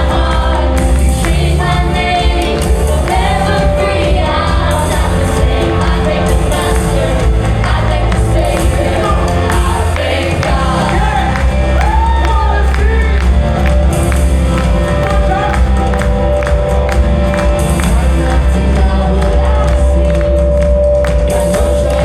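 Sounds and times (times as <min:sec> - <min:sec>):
drum beat: 0:00.0 - 0:22.0
gospel band with singing: 0:00.0 - 0:22.0
heavy bass: 0:00.0 - 0:22.0.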